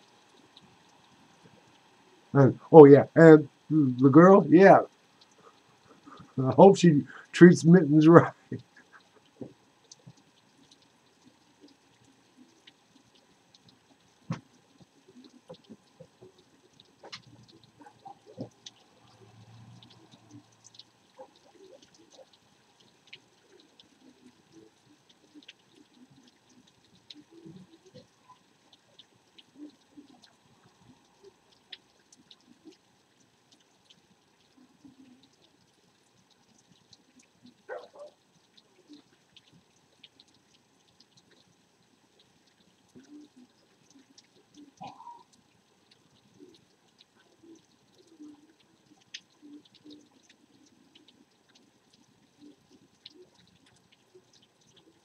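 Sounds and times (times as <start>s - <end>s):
raindrops ticking: 0.0s - 55.0s.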